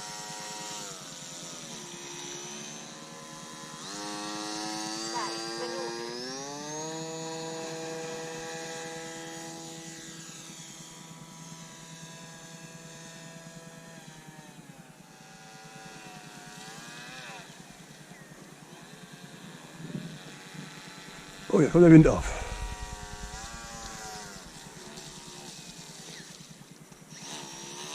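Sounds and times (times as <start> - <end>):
model plane motor whine: 0.0 - 21.5, 22.4 - 27.9.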